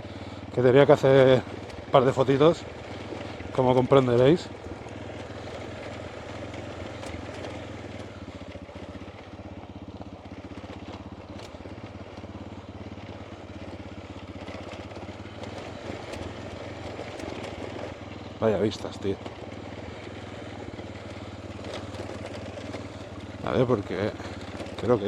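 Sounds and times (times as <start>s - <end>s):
motorcycle engine running steadily: 0.0s - 25.0s.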